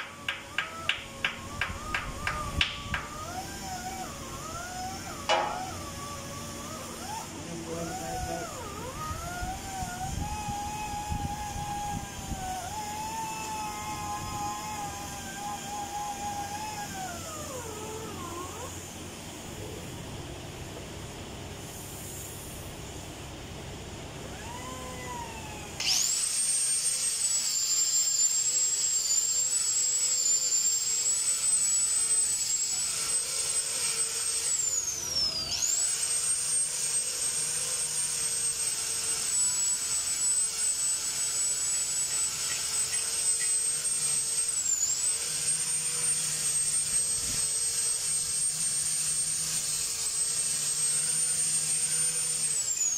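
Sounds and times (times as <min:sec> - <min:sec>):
angle grinder whining: 0:00.0 - 0:19.9, 0:24.2 - 0:52.9.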